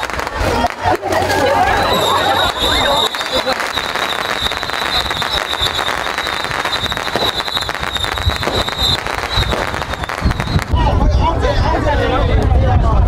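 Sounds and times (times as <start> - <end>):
firecrackers crackling: 0.0 - 11.0.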